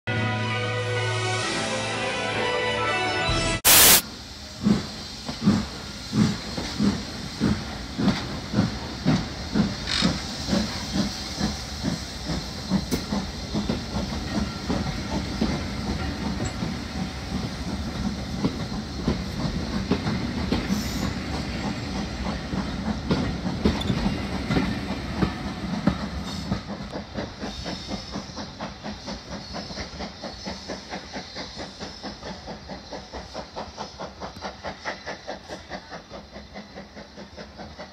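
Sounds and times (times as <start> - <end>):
hiss of steam: 3.6 - 37.9
steam locomotive exhaust chuffs: 3.7 - 37.9.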